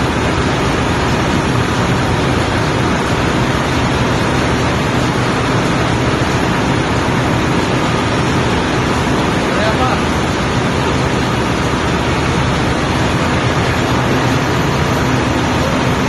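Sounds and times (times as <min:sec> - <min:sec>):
engine room machinery running: 0:00.0 - 0:16.0.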